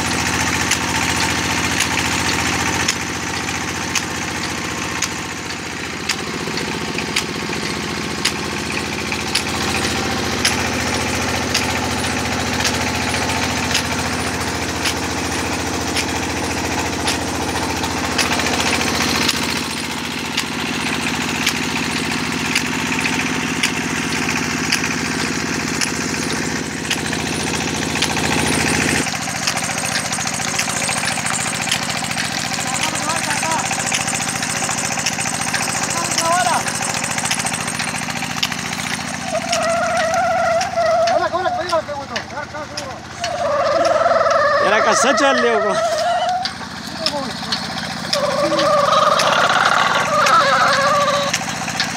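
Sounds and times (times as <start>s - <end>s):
sharp clicks: 0.0s - 51.9s
stationary engine running: 0.0s - 51.9s.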